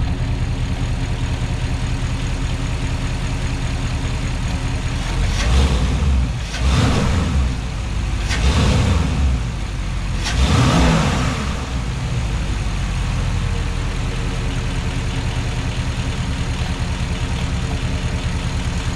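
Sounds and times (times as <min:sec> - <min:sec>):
car engine revving and idling: 0:00.0 - 0:18.9.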